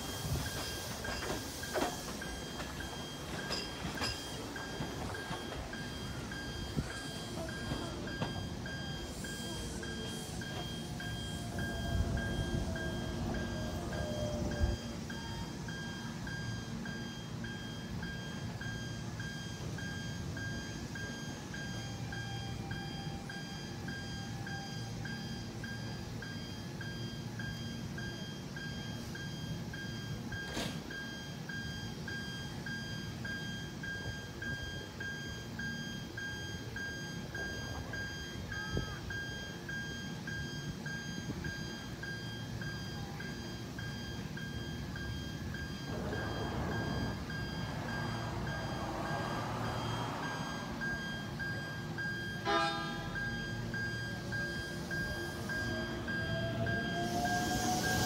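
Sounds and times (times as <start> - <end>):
electronic warning beeps: 0.0 - 58.0
train low rumble: 0.0 - 58.0.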